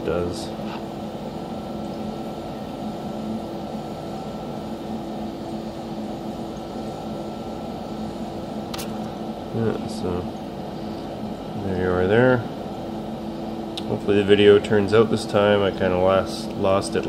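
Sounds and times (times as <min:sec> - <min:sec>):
gas generator humming: 0:00.0 - 0:17.0.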